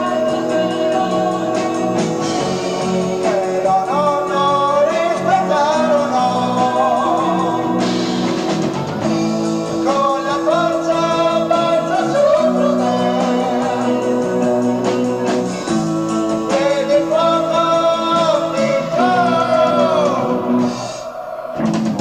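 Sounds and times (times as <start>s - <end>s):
held keyboard chords: 0.0s - 21.0s.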